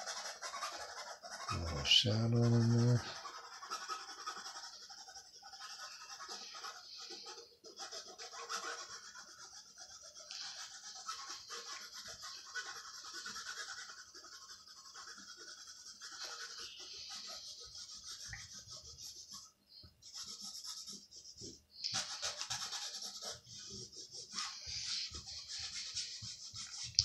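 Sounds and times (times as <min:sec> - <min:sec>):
pencil scratching on cloth: 0:00.0 - 0:27.0.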